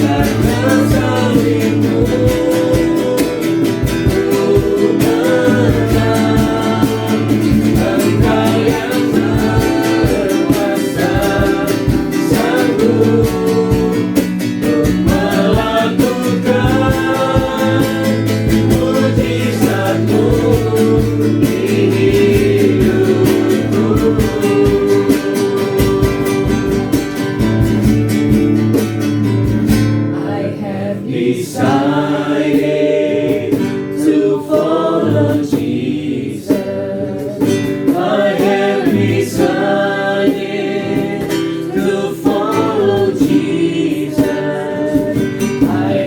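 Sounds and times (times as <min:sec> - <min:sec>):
worship song singing: 0:00.0 - 0:28.5, 0:30.1 - 0:46.0
steady beat: 0:00.0 - 0:30.0, 0:31.6 - 0:46.0
guitar accompaniment: 0:00.0 - 0:46.0.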